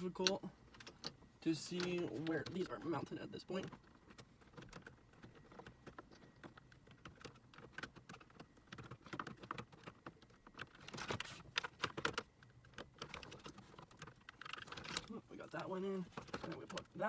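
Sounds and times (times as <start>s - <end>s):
plastic parts clicking and rattling: 0.0s - 17.0s
scraping rustle: 1.6s - 17.0s.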